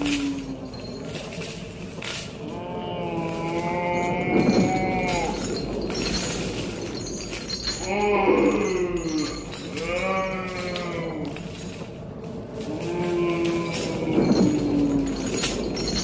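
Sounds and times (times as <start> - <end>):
long moaning cries: 0.0 - 16.0
steady hissing clattering noise: 0.0 - 16.0.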